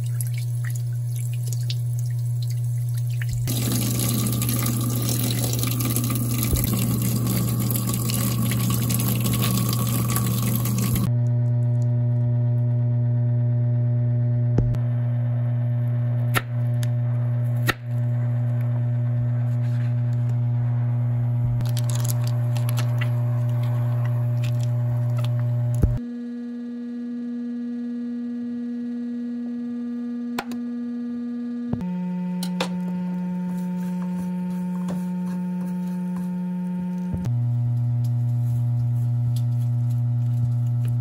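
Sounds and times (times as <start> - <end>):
electronic humming tones: 0.0 - 41.0.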